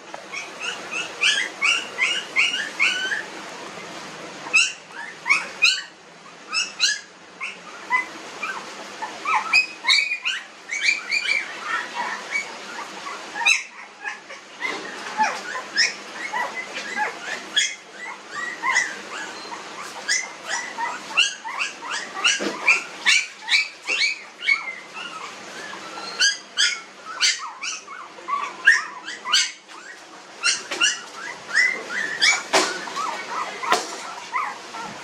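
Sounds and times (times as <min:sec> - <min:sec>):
puppies squealing and whimpering: 0:00.2 - 0:03.8, 0:04.4 - 0:35.0.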